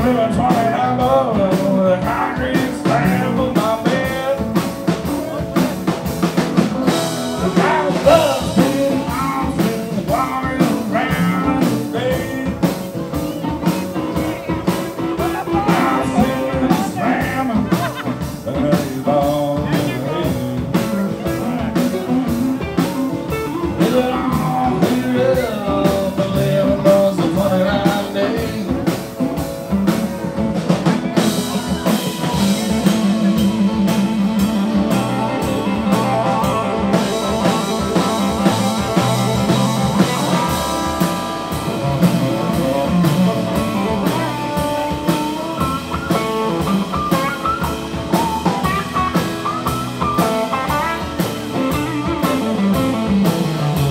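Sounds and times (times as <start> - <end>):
blues rock band playing: 0.0 - 53.9
lead electric guitar: 0.0 - 53.9.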